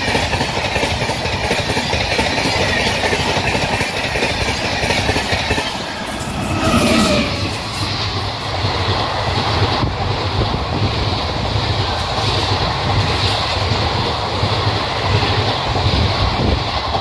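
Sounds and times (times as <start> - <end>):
train coaches rumbling past: 0.0 - 17.0
wheels clacking on rails: 0.0 - 17.0.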